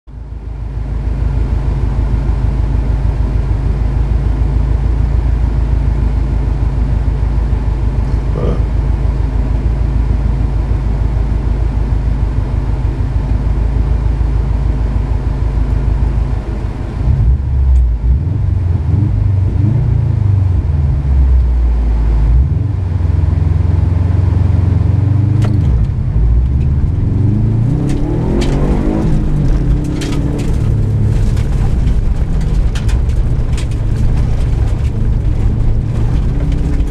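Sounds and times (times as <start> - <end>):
engine idling and revving: 0.1 - 36.9.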